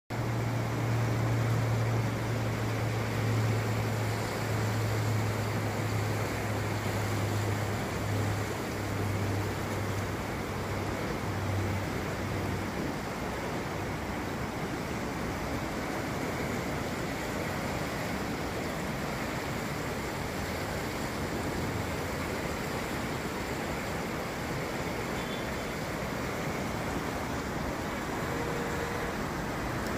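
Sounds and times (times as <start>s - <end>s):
river rushing: 0.1s - 29.9s.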